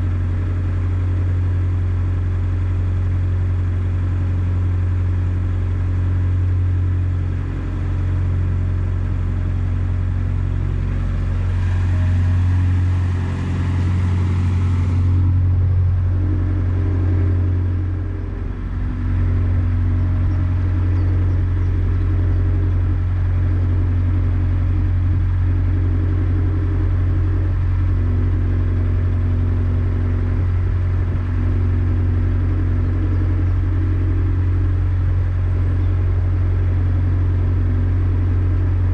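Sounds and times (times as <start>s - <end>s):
boat diesel engine droning: 0.0s - 38.9s.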